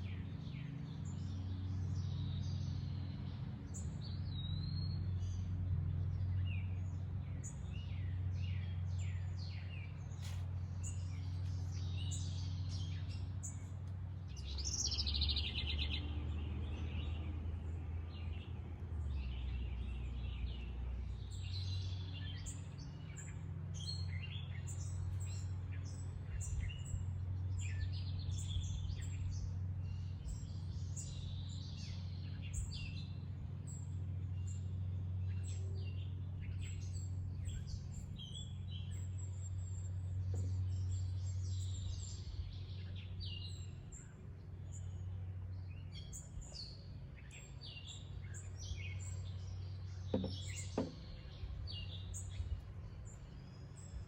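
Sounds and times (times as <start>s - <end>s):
wild birds chirping and singing: 0.0s - 54.0s.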